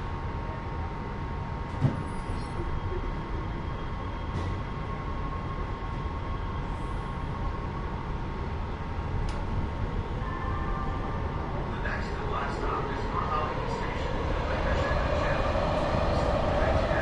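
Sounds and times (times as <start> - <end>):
train rumble: 0.0 - 17.0
train whine: 2.1 - 17.0.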